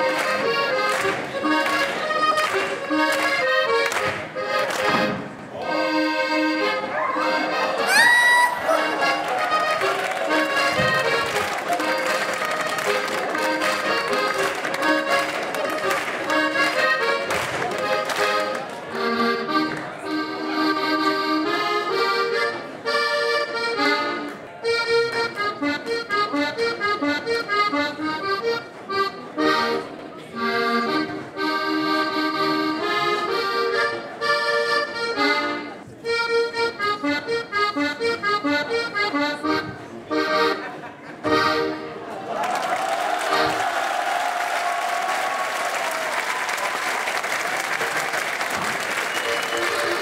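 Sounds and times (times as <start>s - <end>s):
button accordion playing folk tune: 0.0s - 42.1s, 43.3s - 43.7s, 47.5s - 50.0s.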